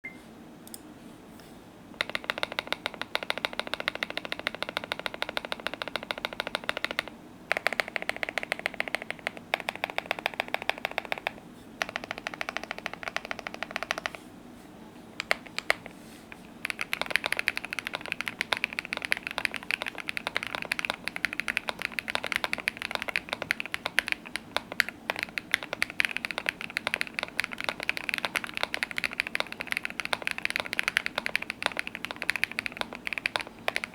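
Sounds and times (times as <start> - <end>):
mechanical keyboard fast typing: 2.0 - 14.2, 15.2 - 15.9, 16.6 - 33.9.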